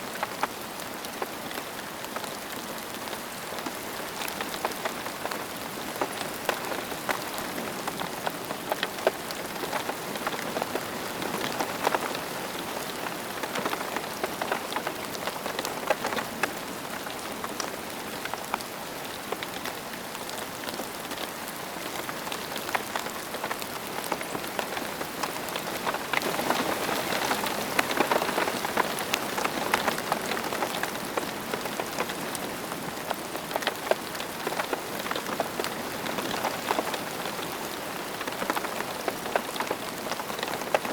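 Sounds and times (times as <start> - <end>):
rain on a hard surface: 0.0 - 40.9.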